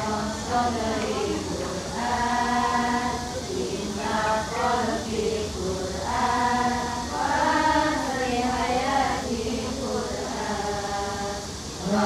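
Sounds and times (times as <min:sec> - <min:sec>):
women and girls singing in unison: 0:00.0 - 0:12.0.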